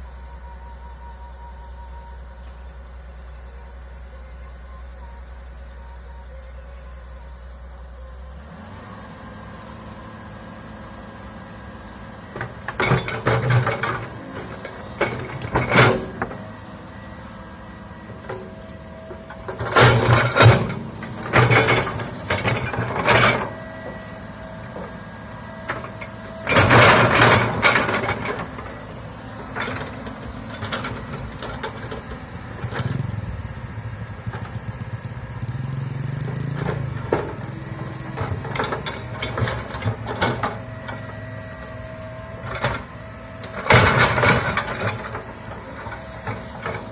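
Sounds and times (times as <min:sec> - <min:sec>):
excavator engine humming: 0:00.0 - 0:46.9.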